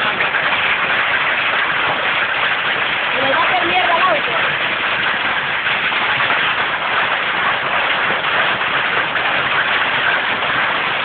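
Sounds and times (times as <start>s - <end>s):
hail falling hard: 0.0s - 11.0s.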